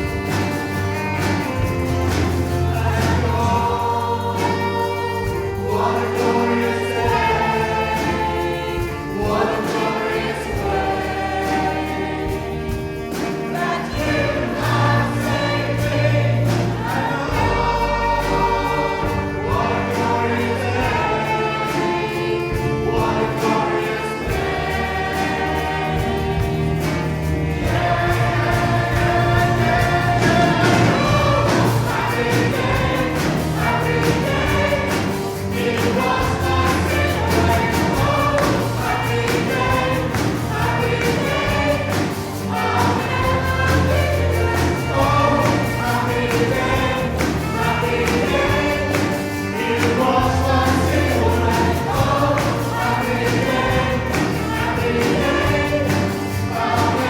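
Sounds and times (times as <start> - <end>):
band accompaniment: 0.0 - 57.0
group singing worship song: 0.0 - 57.0.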